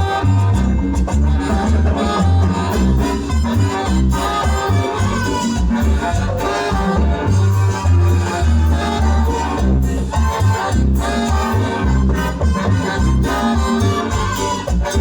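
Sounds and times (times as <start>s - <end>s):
bouncing bass line: 0.0s - 15.0s
latin dance orchestra playing: 0.0s - 15.0s.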